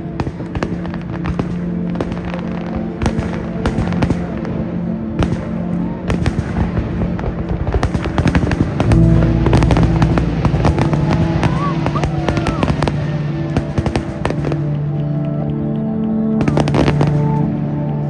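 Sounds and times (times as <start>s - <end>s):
fireworks bangs and crackles: 0.0s - 18.0s
music: 0.0s - 18.0s.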